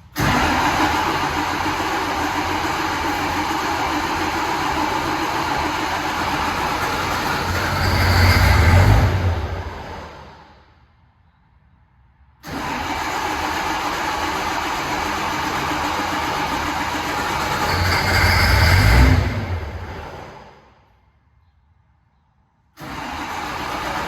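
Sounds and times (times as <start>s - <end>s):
large engine running: 0.0s - 10.7s, 12.4s - 20.6s, 22.8s - 24.0s.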